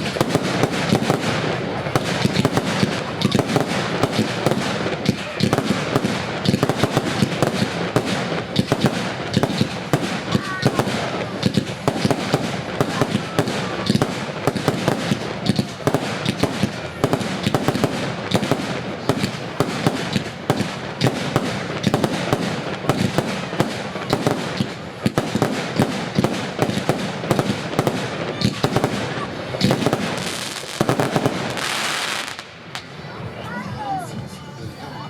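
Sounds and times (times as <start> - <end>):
firework rapid bangs: 0.0 - 32.8.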